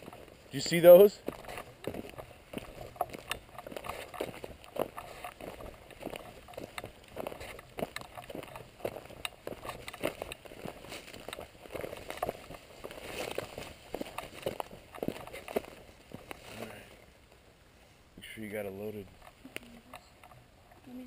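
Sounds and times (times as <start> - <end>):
footsteps on dry cracked mud: 0.0 - 16.9.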